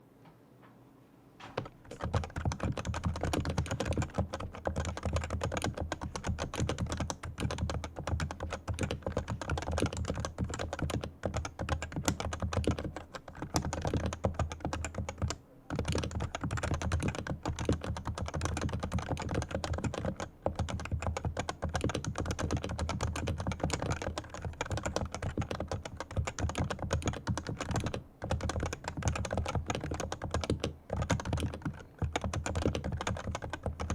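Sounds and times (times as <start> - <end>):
keyboard typing: 1.4 - 33.9.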